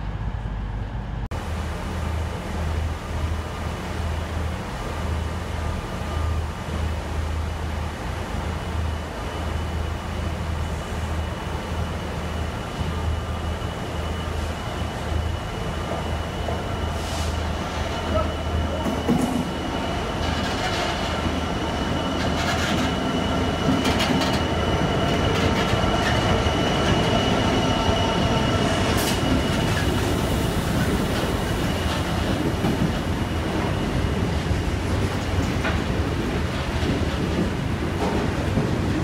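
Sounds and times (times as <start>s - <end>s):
diesel locomotive running: 0.0s - 39.0s.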